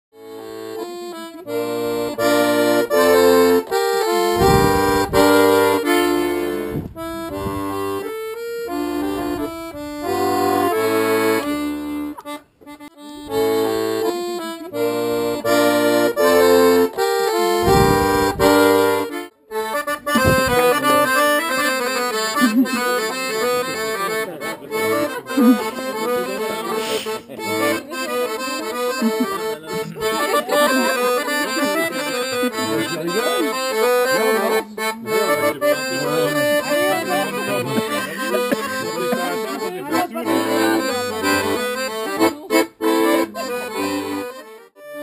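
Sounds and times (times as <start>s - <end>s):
accordion playing a tune: 0.1s - 45.0s.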